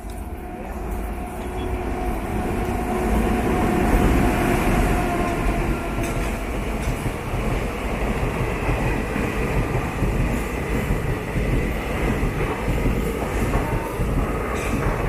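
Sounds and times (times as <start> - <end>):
passenger train rumbling on rails: 0.0 - 15.0.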